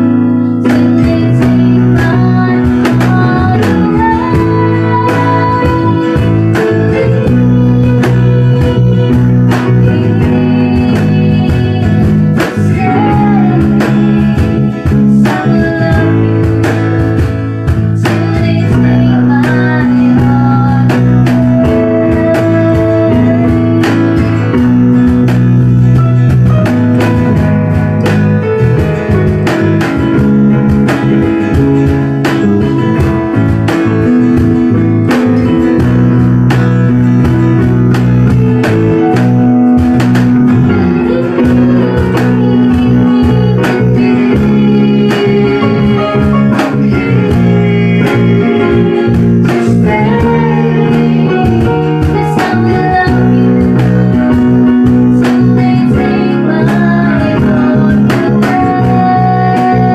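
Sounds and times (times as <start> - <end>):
cajon tapping a beat: 0.0 - 59.9
live band playing: 0.0 - 59.9.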